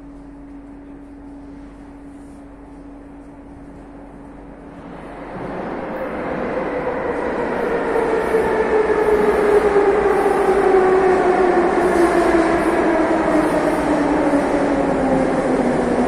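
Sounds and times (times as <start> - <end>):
metro train rumble: 0.0 - 16.0.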